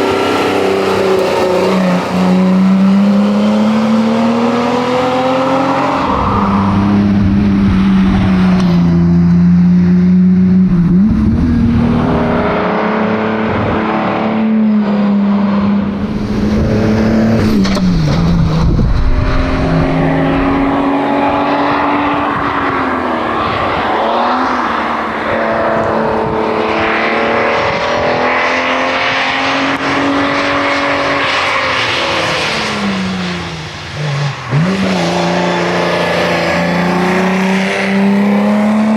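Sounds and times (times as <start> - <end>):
car engine running hard: 0.0 - 38.9
tyre and road noise: 0.0 - 38.9.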